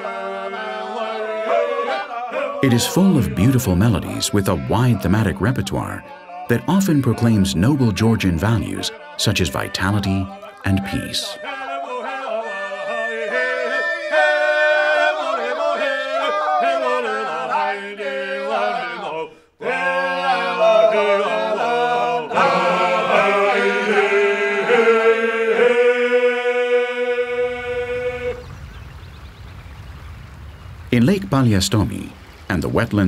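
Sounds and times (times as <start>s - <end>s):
male voices singing in harmony: 0.0s - 28.6s.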